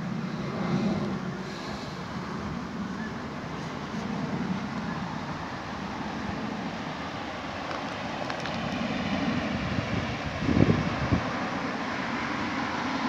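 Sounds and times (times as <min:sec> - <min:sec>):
low rumbling outdoor background noise: 0:00.0 - 0:13.0.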